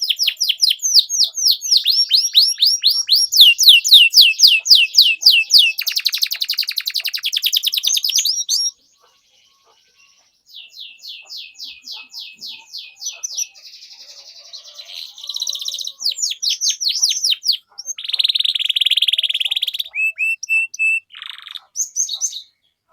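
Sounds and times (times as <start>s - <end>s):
canary singing: 0.0s - 22.9s.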